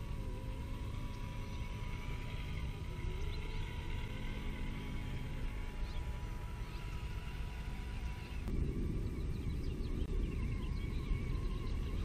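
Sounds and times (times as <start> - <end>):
electric motors whining faintly: 0.0 - 12.0
steady low rumble: 0.0 - 12.0.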